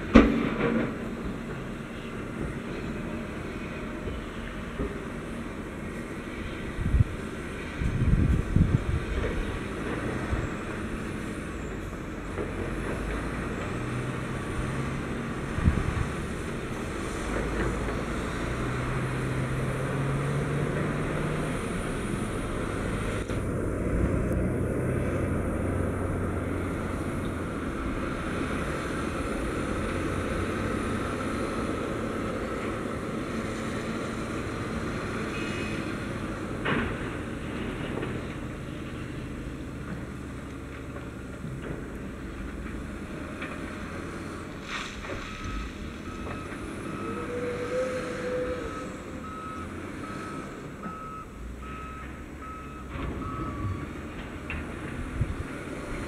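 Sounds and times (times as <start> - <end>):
dump truck diesel engine: 0.0 - 56.0
wheel loader engine: 0.0 - 56.0.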